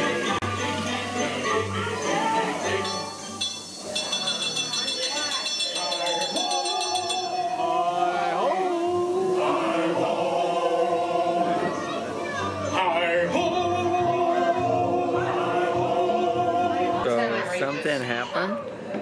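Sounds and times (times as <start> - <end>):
choir-like voices singing: 0.0 - 17.6.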